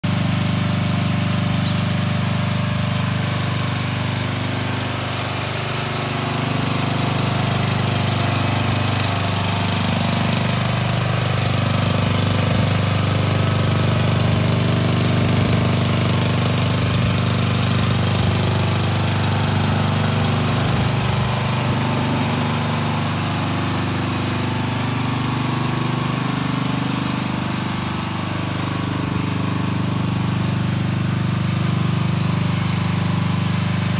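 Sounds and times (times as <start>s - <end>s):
mini excavator engine idling: 0.0s - 33.9s.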